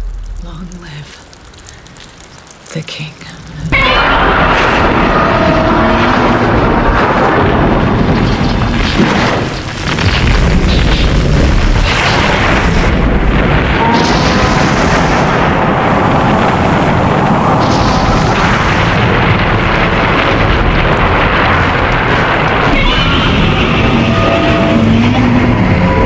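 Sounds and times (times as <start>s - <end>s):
explosions and deep rumbling: 0.0s - 26.0s.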